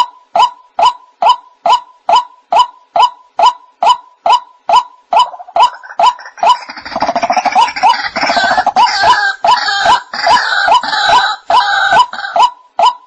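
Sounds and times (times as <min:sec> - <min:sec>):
waterhen calling kook notes: 0:00.4 - 0:13.0.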